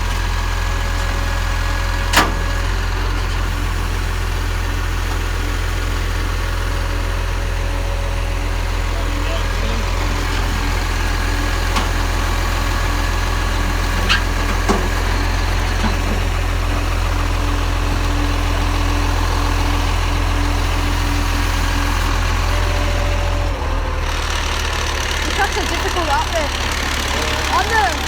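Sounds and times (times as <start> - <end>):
diesel engine low rumble: 0.0 - 28.0.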